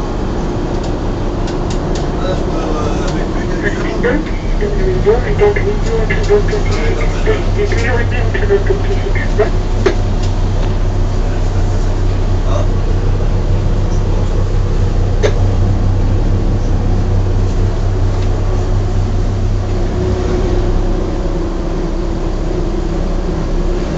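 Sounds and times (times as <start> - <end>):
boat engine droning: 0.0 - 23.9.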